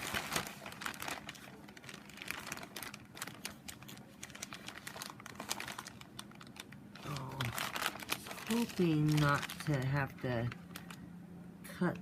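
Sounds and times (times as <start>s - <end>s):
packaging crinkling: 0.0s - 11.1s.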